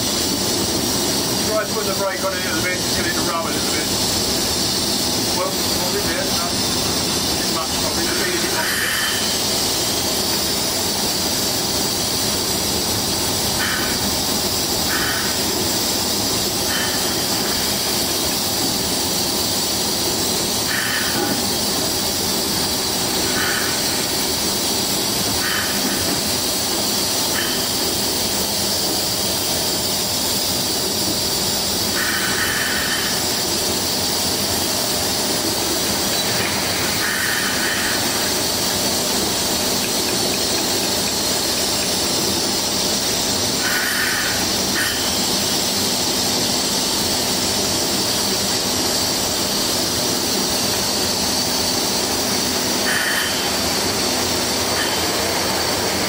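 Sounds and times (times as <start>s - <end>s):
train running on track: 0.0s - 56.0s.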